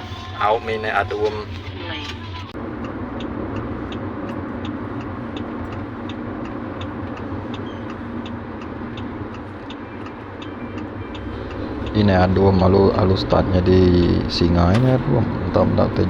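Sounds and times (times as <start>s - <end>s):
car engine and road hum: 0.0s - 16.0s
light even ticking: 2.6s - 16.0s.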